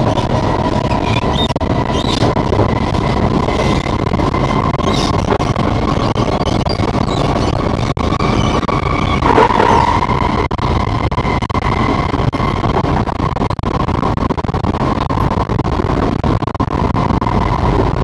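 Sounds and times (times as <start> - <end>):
train whine: 0.0 - 16.2
train wheels rumbling on rail: 0.0 - 18.0.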